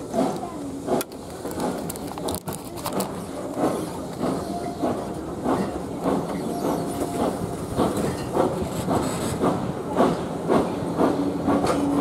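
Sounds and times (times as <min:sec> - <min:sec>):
train carriages rumbling and clattering: 0:00.0 - 0:12.0.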